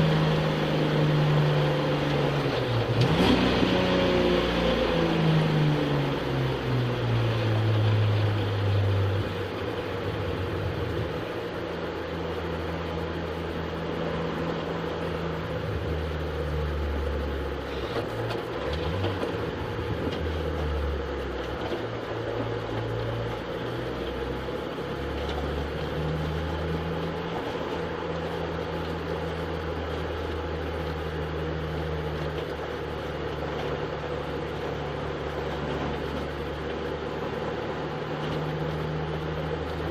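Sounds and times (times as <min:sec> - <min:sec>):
car engine revving: 0:00.0 - 0:39.9
road and cabin noise: 0:00.0 - 0:39.9.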